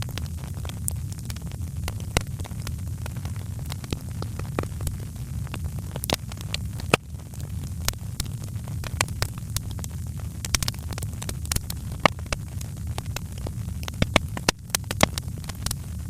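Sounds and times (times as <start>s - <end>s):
fire crackling and popping: 0.0s - 16.0s
fire low rumble: 0.0s - 16.0s.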